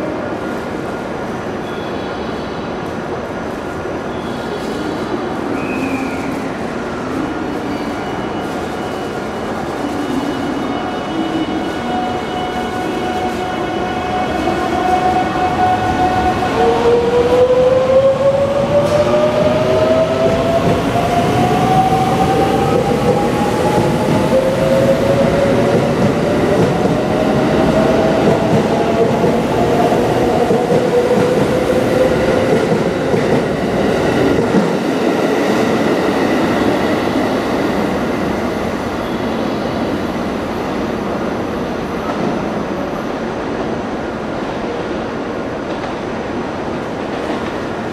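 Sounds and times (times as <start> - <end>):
train running noise: 0.0 - 47.9.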